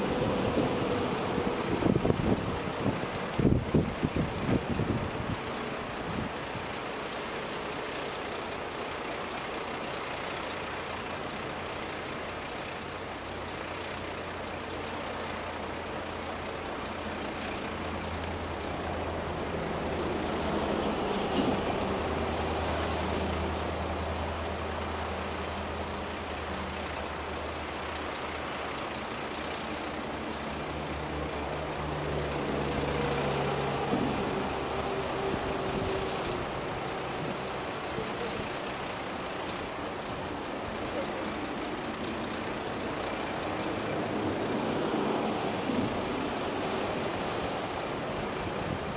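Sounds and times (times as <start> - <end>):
diesel railcar engine idling: 0.0 - 48.9.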